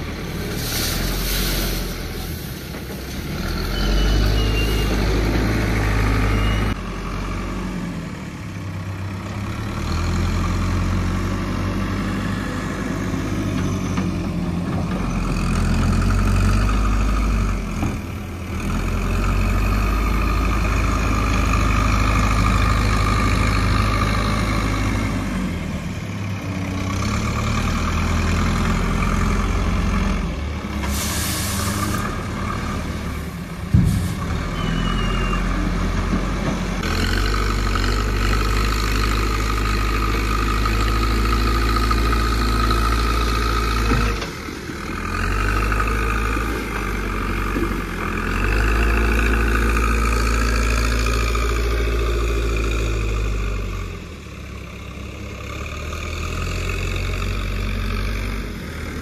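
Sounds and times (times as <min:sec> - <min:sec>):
diesel engine working under load: 0:00.0 - 0:59.0.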